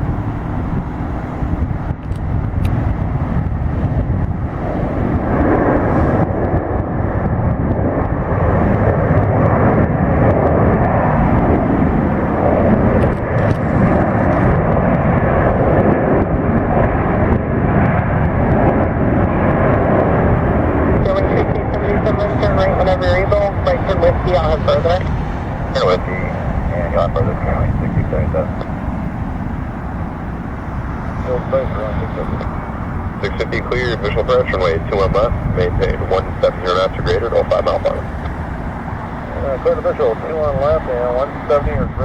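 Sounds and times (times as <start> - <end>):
jet engine rushing: 0.0 - 42.0.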